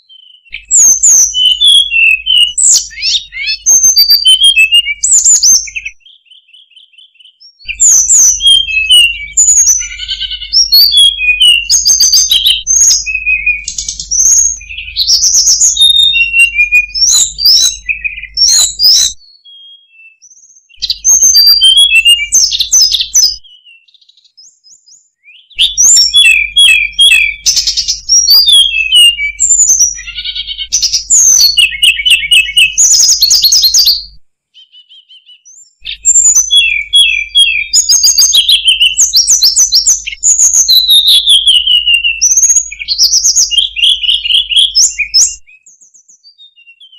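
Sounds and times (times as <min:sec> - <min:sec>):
bird singing high trills: 0:00.0 - 0:46.9.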